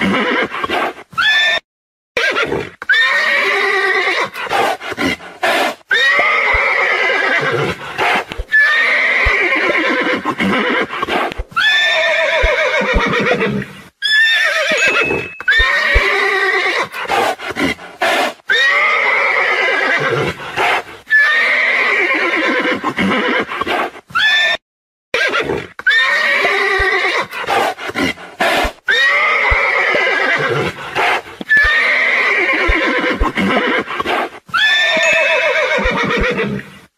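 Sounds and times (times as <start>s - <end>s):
horse neighing: 0.0s - 0.6s, 2.2s - 16.9s, 18.0s - 20.4s, 21.1s - 23.6s, 25.2s - 28.1s, 28.9s - 36.8s.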